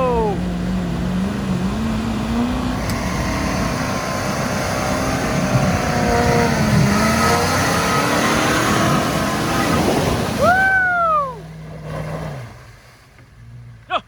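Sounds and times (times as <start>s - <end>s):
engine revving under load: 0.0s - 13.9s.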